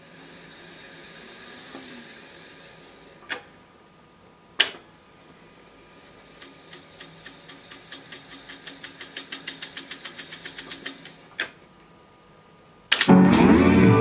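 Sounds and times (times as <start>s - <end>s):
faint motor hum: 0.0s - 12.9s.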